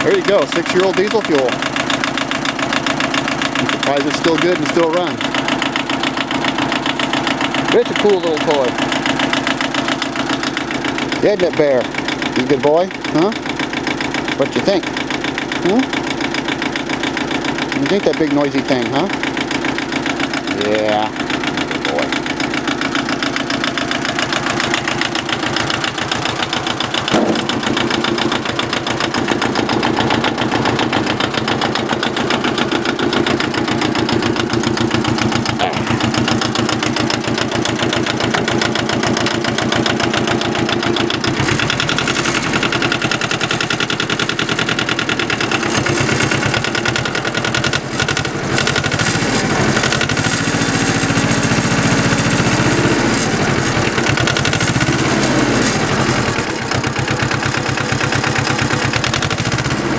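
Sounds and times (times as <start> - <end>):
diesel tractor engine chugging: 0.0 - 59.9.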